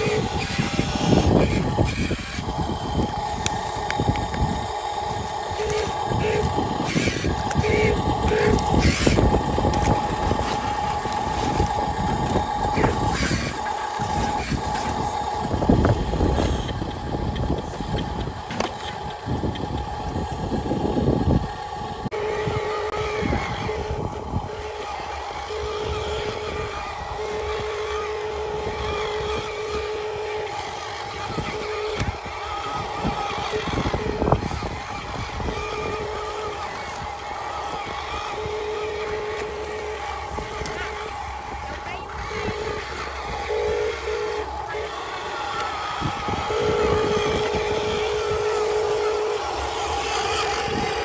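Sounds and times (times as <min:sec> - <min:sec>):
electric motor whine: 0:00.0 - 0:51.0
second motor tone: 0:00.0 - 0:51.0.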